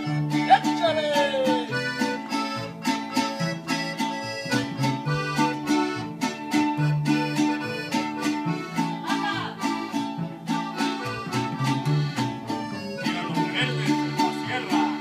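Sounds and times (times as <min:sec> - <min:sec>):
folk band playing: 0:00.0 - 0:15.0.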